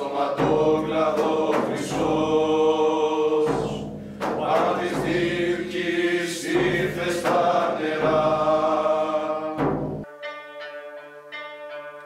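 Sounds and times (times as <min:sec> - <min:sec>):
boys chorus singing chant: 0:00.0 - 0:10.0.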